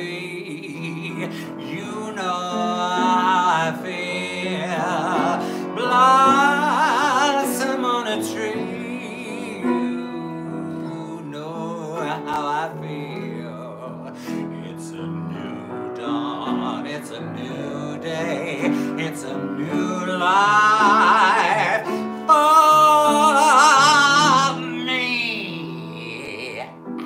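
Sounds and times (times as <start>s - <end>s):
person singing ballad: 0.0s - 27.0s
piano chords: 0.0s - 27.0s.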